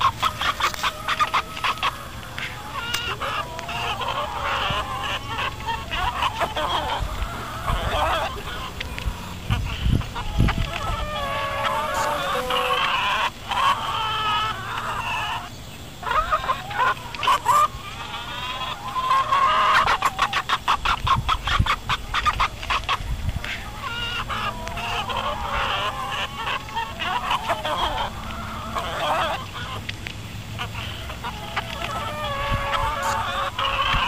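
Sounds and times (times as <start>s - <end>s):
fast run of hen clucks: 0.0s - 34.0s
hens clucking and squawking: 0.0s - 34.0s.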